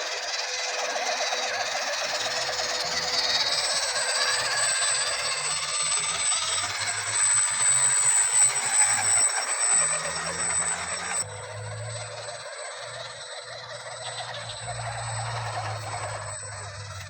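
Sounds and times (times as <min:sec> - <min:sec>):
electric motor and gears whirring: 0:00.0 - 0:17.0
high whine: 0:01.6 - 0:17.0.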